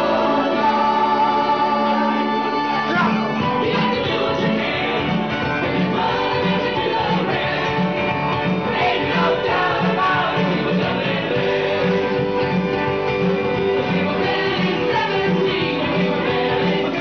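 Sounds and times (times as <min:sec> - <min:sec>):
dance music with guitar: 0:00.0 - 0:17.0.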